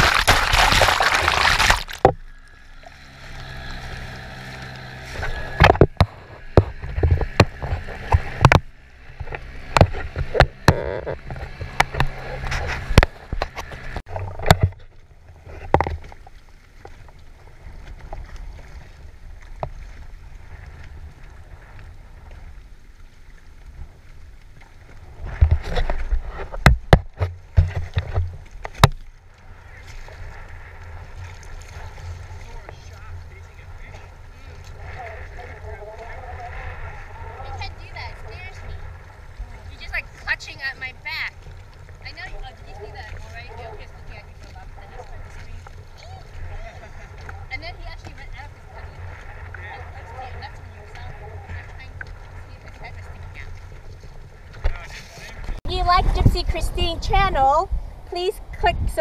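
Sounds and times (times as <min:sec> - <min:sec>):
water lapping against boat: 0:00.0 - 0:59.0
water rushing and splashing: 0:00.0 - 0:59.0.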